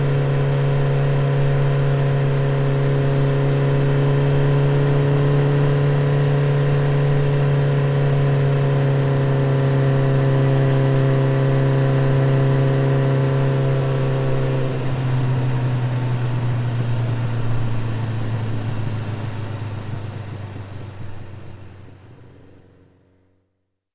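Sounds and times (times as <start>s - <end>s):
motorcycle engine running: 0.0s - 23.4s.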